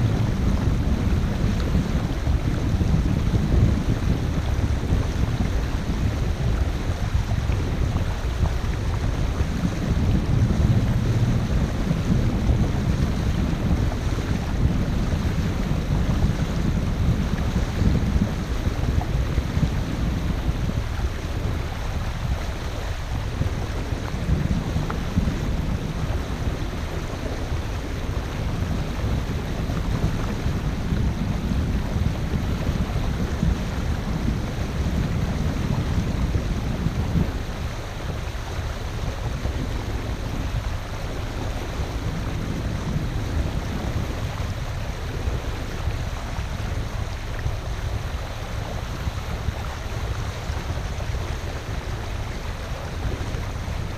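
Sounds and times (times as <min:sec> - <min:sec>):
boat low rumble: 0:00.0 - 0:53.9
rushing water: 0:00.0 - 0:53.9
wind buffeting microphone: 0:00.0 - 0:53.9.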